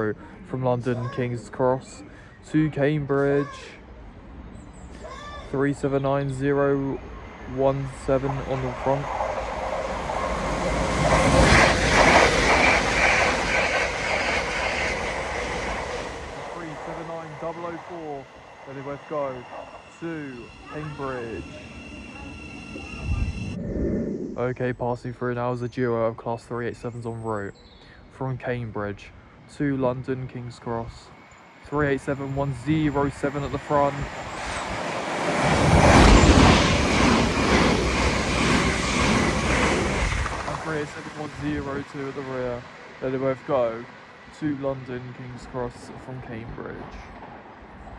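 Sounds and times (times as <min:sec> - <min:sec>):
electric train passing at speed: 0:02.3 - 0:24.4, 0:28.1 - 0:47.9.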